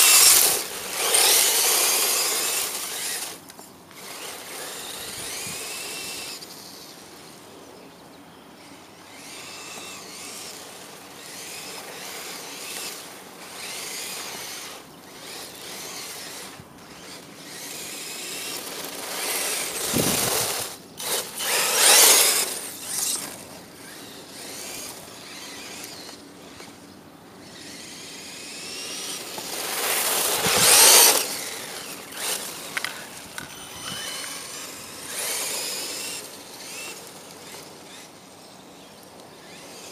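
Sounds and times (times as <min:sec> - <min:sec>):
electric motor whining: 0:00.0 - 0:06.9, 0:09.0 - 0:39.9
tyres hissing on dirt: 0:00.0 - 0:07.4, 0:09.2 - 0:26.9, 0:27.6 - 0:38.0.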